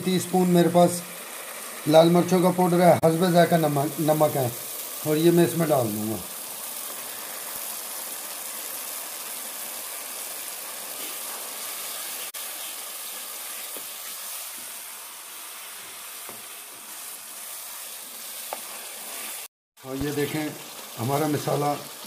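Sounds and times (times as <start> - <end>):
paste sizzling in oil: 0.0 - 22.0.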